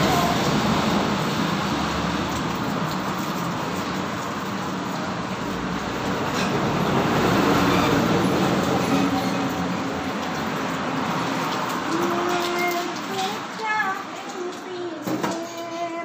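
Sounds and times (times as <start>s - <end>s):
truck rumbling by: 0.0s - 13.6s
road traffic passing: 0.0s - 16.0s.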